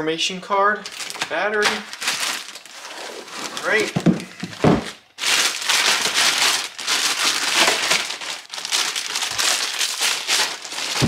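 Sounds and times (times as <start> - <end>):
packaging crinkling and rustling: 0.8 - 11.0.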